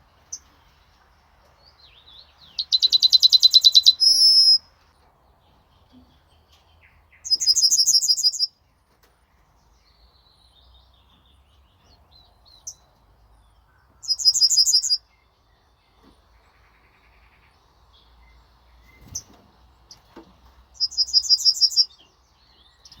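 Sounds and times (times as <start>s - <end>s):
bird song of high notes: 0.0s - 8.6s, 9.3s - 23.0s.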